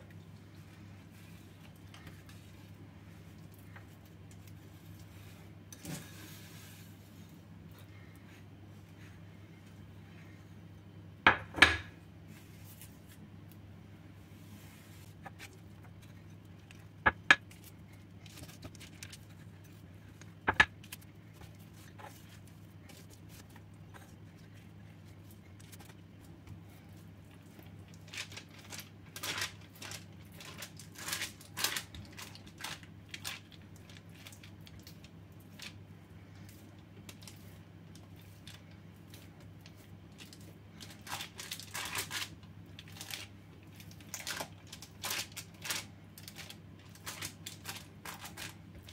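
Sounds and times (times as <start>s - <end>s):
baking paper rustling: 0.4s - 10.5s, 12.3s - 13.3s, 14.2s - 48.9s.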